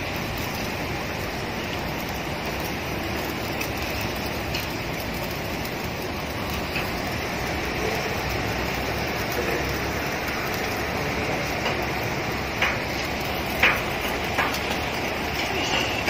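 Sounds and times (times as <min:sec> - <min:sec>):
rushing machinery noise: 0:00.0 - 0:16.0.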